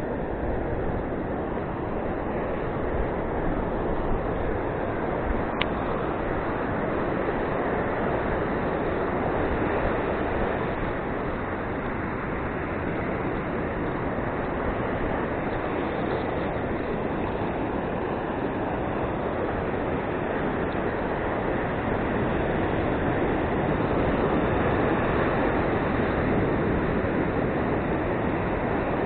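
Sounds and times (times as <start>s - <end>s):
ocean surf rushing on beach: 0.0s - 29.0s.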